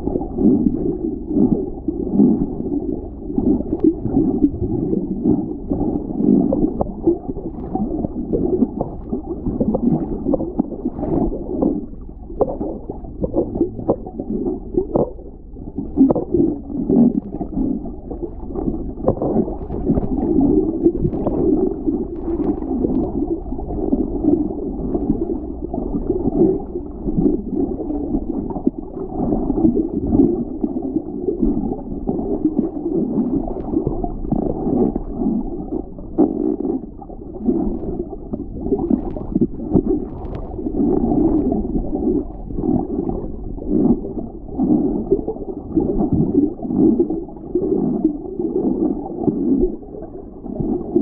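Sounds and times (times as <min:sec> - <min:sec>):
water gurgling underwater: 0:00.0 - 0:51.0.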